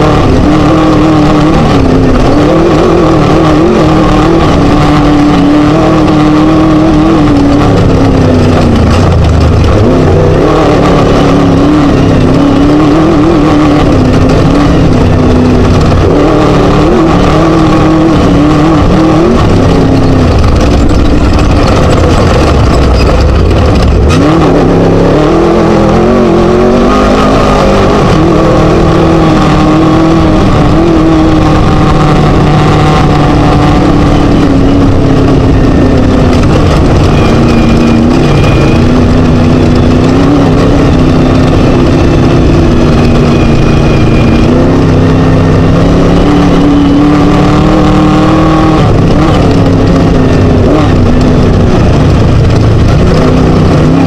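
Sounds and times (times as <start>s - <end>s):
buggy engine revving loudly: 0.0s - 54.0s.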